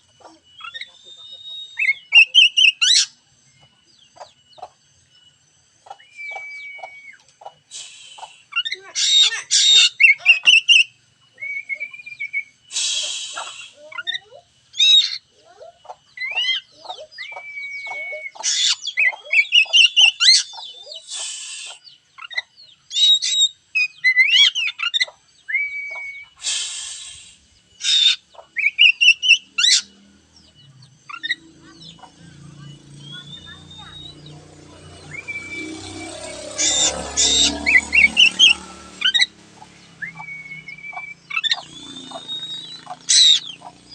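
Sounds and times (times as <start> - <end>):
bird harsh rasping calls: 0.0 - 3.2, 3.9 - 43.9
bird singing whistled song: 0.2 - 7.5, 8.1 - 43.9.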